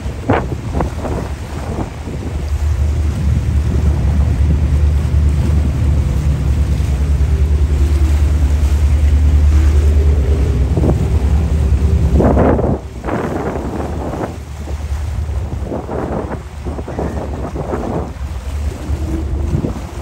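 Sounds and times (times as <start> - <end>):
boat engine drone: 0.0 - 20.0
water wash: 0.0 - 20.0
wind rumble on microphone: 0.0 - 20.0.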